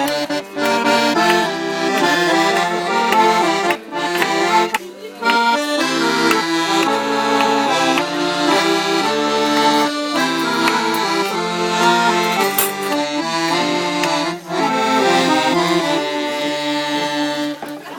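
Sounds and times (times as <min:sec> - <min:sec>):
accordion playing lively tune: 0:00.0 - 0:17.9.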